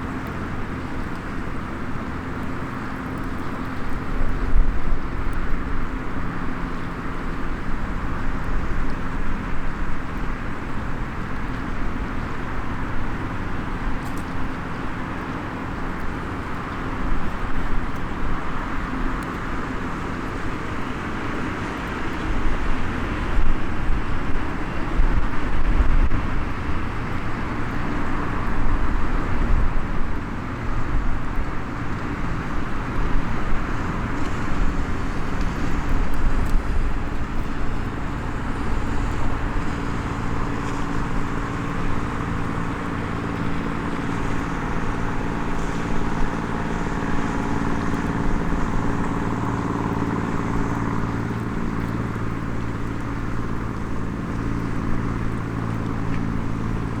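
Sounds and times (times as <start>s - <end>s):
campfire crackling: 0.0s - 25.5s, 26.3s - 57.0s
distant road traffic: 0.0s - 57.0s
low engine hum: 0.0s - 57.0s.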